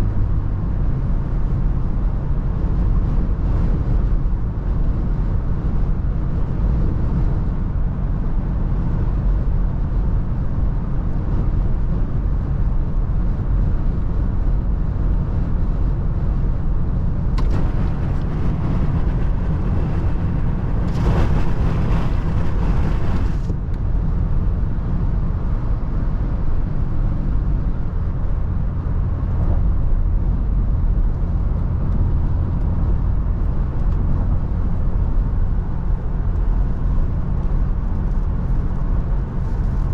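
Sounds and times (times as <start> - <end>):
car driving low rumble: 0.0 - 39.9
road noise: 0.0 - 39.9
wind: 0.0 - 39.9.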